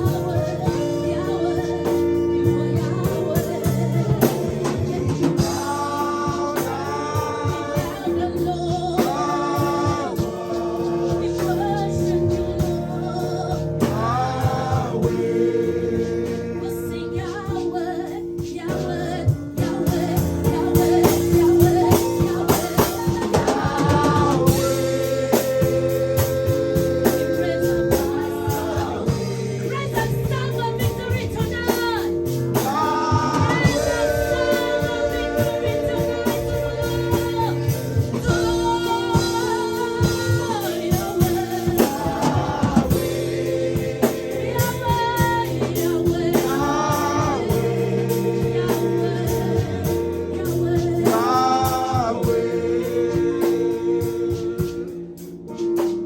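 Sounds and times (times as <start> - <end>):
gospel singing: 0.0 - 56.0.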